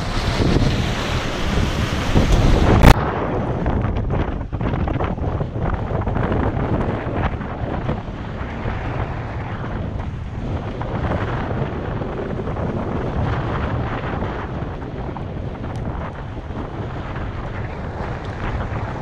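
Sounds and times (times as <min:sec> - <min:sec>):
sea rushing along hulls: 0:00.0 - 0:19.0
wind buffeting microphone: 0:00.0 - 0:19.0.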